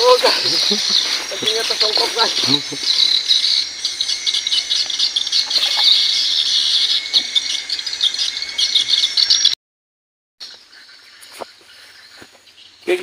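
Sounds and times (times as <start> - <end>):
insects chirring: 0.0 - 9.6, 10.4 - 13.0.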